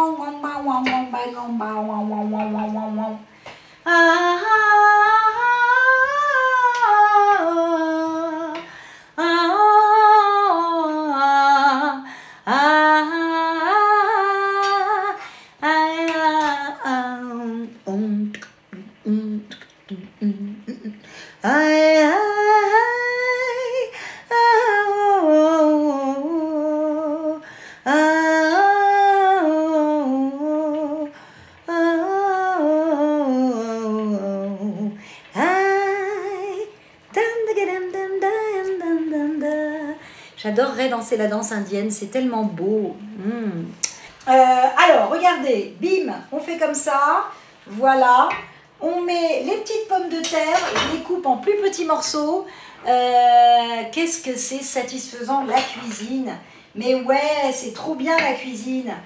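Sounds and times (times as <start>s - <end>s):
woman singing wordless melody: 0.0s - 59.0s.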